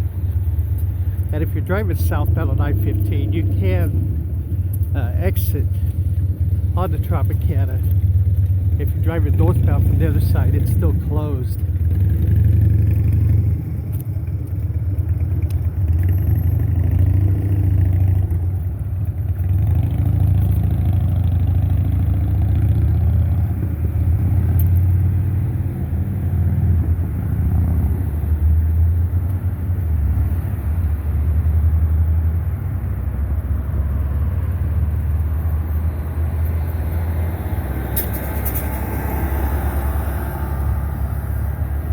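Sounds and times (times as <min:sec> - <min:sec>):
cars passing on road: 0:00.0 - 0:41.9.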